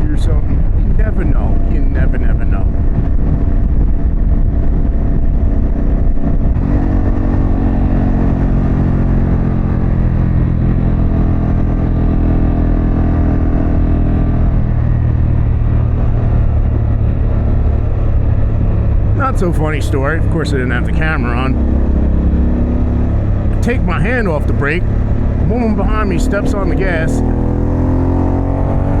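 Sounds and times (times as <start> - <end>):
motorcycle engine while riding: 0.0 - 29.0.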